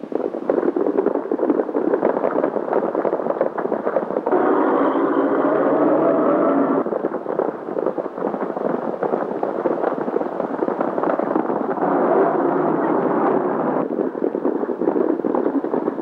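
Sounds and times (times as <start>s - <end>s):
horses galloping: 0.1s - 16.0s.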